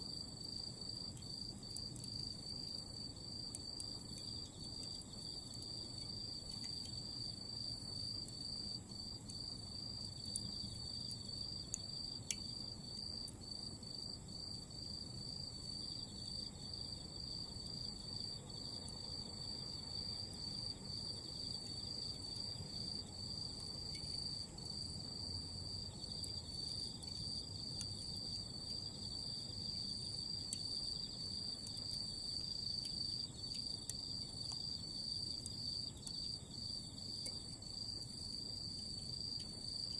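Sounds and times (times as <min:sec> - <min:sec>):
insects chirping trill: 0:00.0 - 0:39.9.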